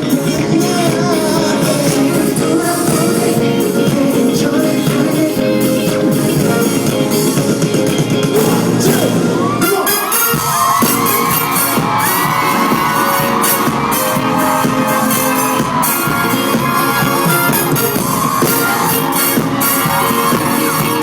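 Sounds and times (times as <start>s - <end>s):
live pop music with singing: 0.0s - 21.0s.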